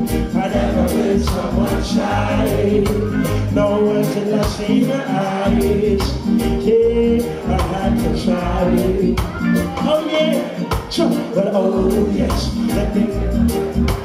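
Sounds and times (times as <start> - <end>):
reggae band playing: 0.0 - 14.0
man singing into microphone: 0.2 - 13.7.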